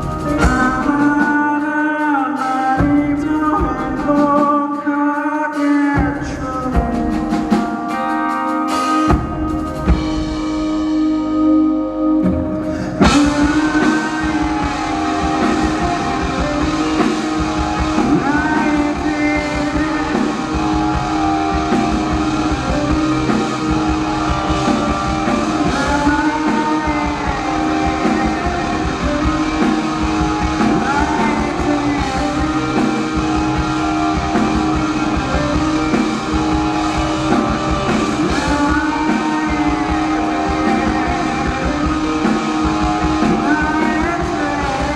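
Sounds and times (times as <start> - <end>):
live rock band playing: 0.0 - 44.9
guitar bends: 6.8 - 44.9.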